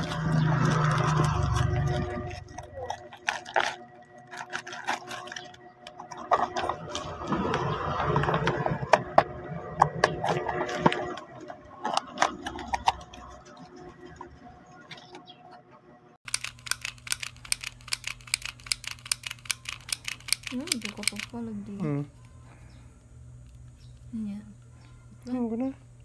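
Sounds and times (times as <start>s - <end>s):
faint steady hum: 1.4s - 26.0s.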